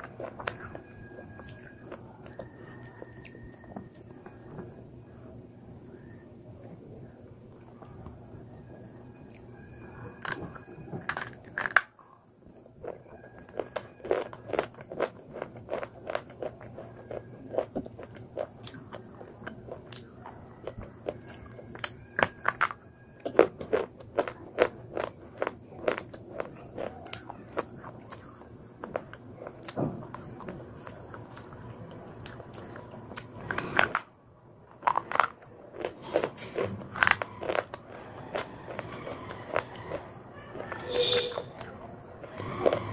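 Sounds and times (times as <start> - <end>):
crunching of chewed slate pencil: 0.0 - 4.6, 7.5 - 34.1, 34.7 - 42.9.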